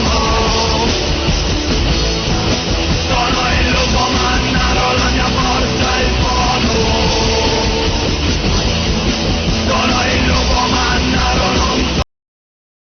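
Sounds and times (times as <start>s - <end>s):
loud rock band playing: 0.0s - 12.0s.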